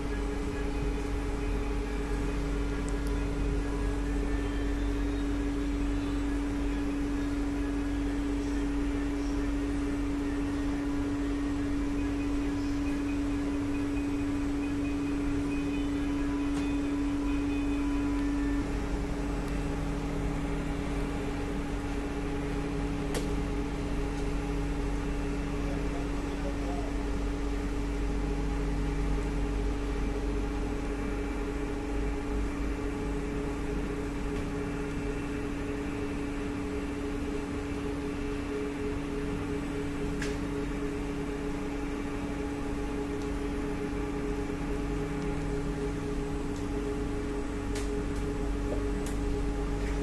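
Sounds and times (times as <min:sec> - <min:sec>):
train equipment humming: 0:00.0 - 0:50.0.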